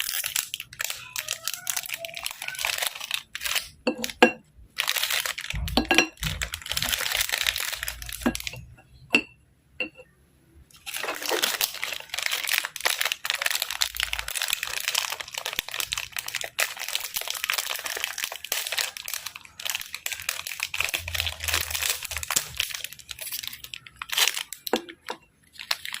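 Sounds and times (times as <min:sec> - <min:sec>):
packaging crinkling: 0:00.0 - 0:08.7, 0:10.7 - 0:26.0.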